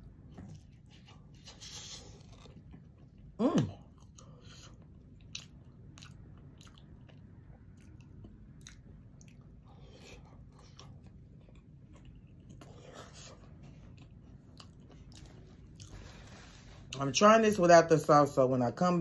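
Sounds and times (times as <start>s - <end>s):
chewing and lip smacking: 0.2s - 16.2s.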